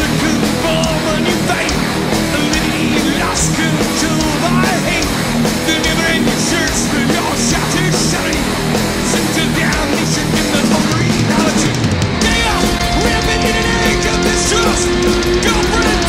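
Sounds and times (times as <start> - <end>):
gliding lead guitar line: 0.0 - 16.0
heavy metal music: 0.0 - 16.0.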